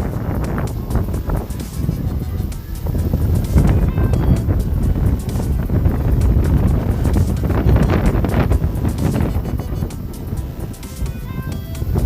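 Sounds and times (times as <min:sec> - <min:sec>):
background music: 0:00.0 - 0:12.0
wind buffeting microphone: 0:00.0 - 0:12.0.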